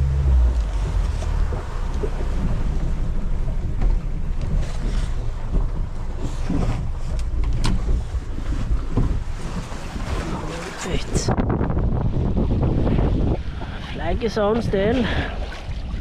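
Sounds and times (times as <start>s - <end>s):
knocks and splashes: 0.0s - 16.0s
water lapping around boat: 0.0s - 16.0s
wind buffeting microphone: 0.0s - 16.0s.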